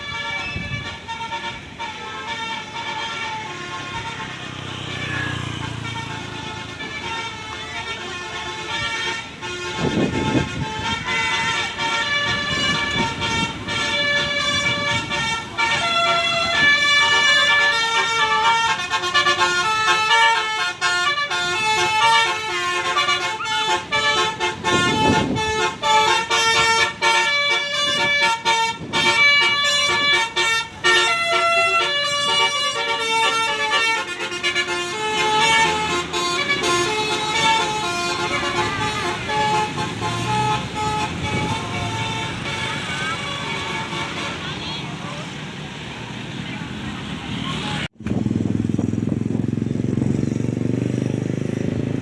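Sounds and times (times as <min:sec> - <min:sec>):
musical air horn tune: 0:00.0 - 0:44.7.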